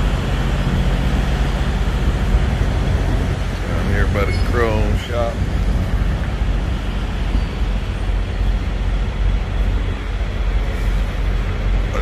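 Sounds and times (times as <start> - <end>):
diesel engine running at low speed: 0.0 - 12.0.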